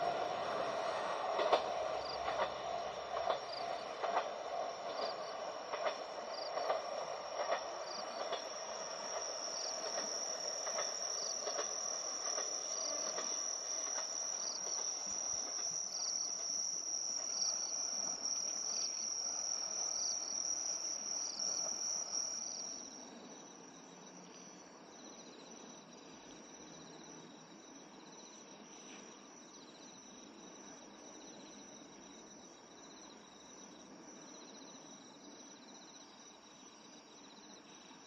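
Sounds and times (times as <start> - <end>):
night insects chirping: 0.0 - 38.0.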